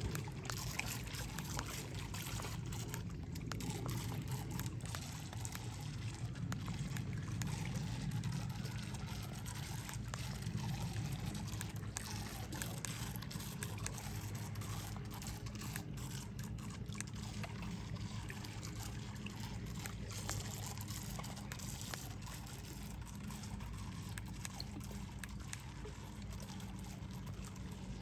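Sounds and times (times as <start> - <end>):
water lapping among rocks: 0.0 - 28.0.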